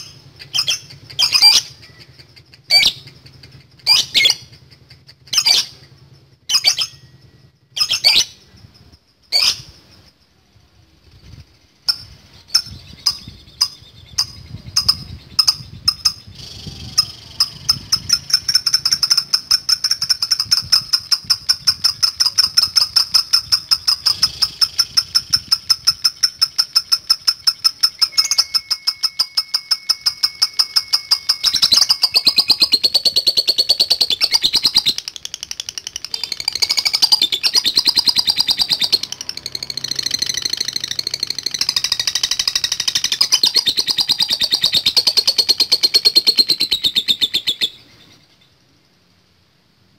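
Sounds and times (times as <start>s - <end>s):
lovebird chattering trill: 0.0s - 10.4s, 11.0s - 48.8s.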